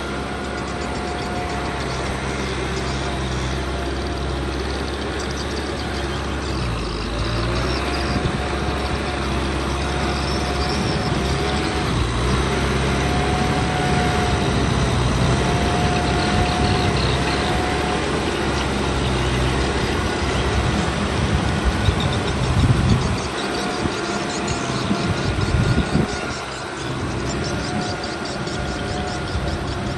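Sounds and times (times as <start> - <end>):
tractor diesel engine running: 0.0 - 29.9
wavering whine: 0.0 - 29.9.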